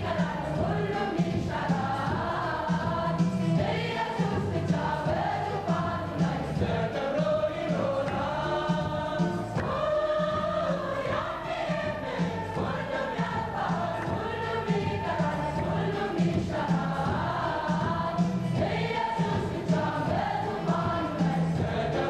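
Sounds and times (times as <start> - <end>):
choir singing a gospel hymn: 0.0 - 22.0.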